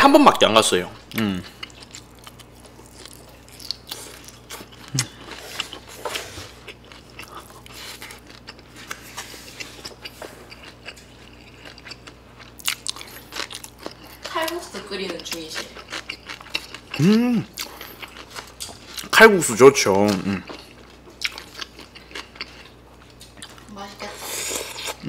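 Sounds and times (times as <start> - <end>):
person chewing crunchy food: 1.1 - 19.2, 20.0 - 25.0.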